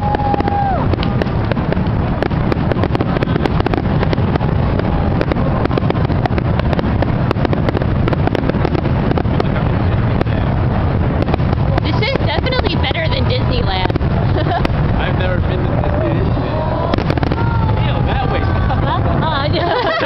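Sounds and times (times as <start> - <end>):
fireworks cracking and popping: 0.0 - 20.0
steady low rumble: 0.0 - 20.0.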